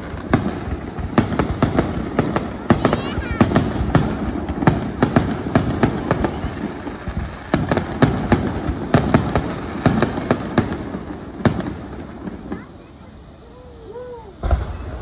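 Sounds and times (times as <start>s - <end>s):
fireworks bursting with bangs: 0.0s - 15.0s
fireworks crackle and rumble: 0.0s - 15.0s.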